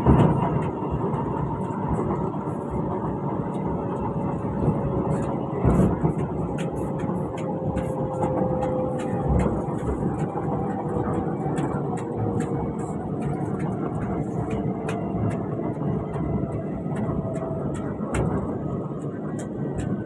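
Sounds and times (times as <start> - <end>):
train rumble and rail noise: 0.0 - 20.0.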